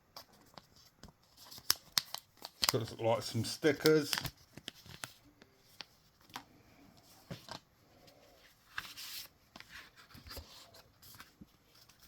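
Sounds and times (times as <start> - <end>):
paper rustling: 0.2 - 6.4, 8.4 - 12.0.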